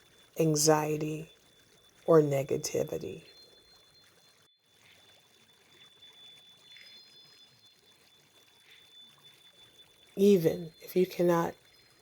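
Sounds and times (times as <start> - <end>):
thin steady high tone: 0.0 - 12.0
trickling water: 0.0 - 12.0.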